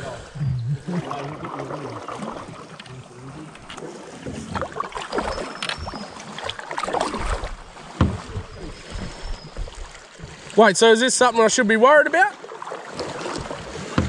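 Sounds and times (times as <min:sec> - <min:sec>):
water splashing around canoe: 0:00.0 - 0:14.0.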